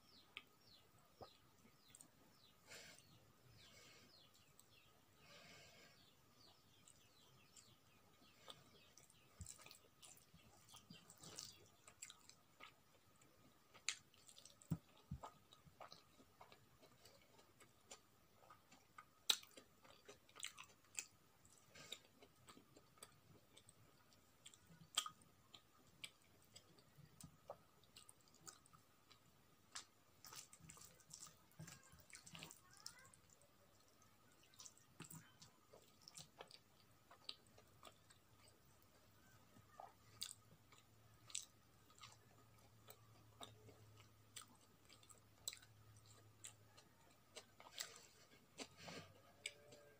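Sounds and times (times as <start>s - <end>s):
person chewing: 0.1s - 49.9s.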